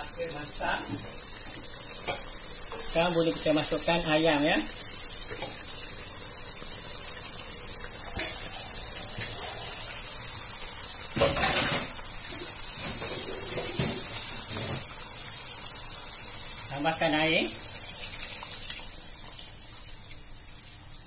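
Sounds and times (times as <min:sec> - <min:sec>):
chicken sizzling in hot oil: 0:00.0 - 0:21.0
paste sizzling in oil: 0:00.0 - 0:21.0.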